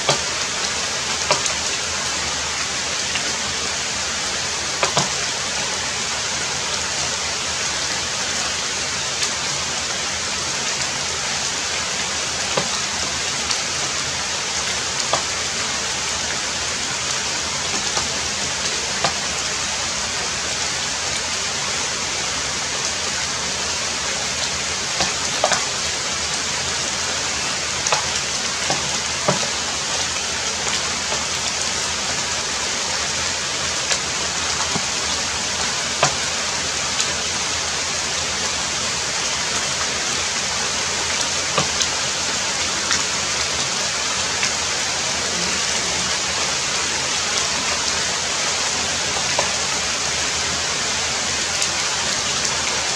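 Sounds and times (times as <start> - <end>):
heavy rain: 0.0 - 52.9
raindrops ticking: 0.0 - 52.9.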